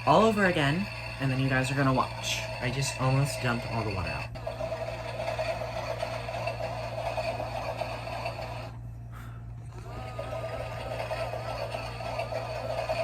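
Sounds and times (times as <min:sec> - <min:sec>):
toy washing machine motor hum: 0:00.0 - 0:13.0.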